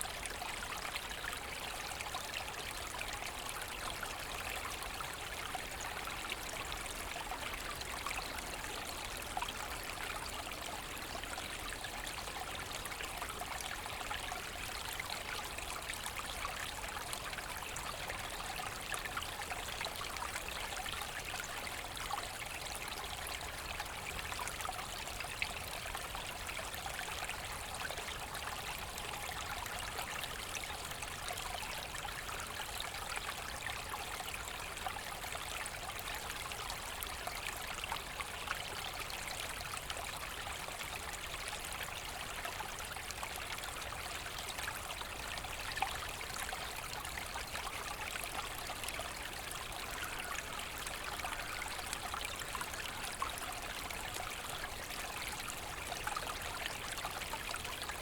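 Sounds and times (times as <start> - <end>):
brook water trickling over stones: 0.0 - 58.0.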